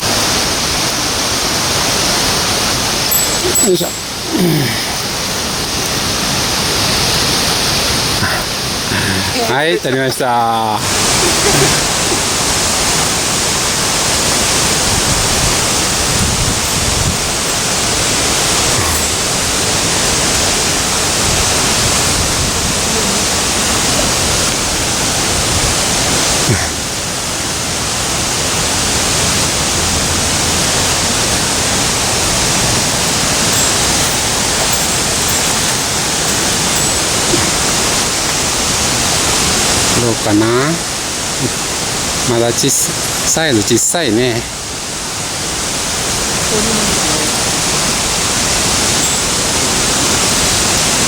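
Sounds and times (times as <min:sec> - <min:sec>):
stream water rushing: 0:00.0 - 0:51.0.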